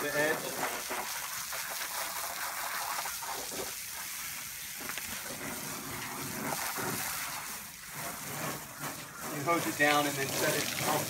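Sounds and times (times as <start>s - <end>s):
hose water splashing on concrete: 0.0s - 11.0s.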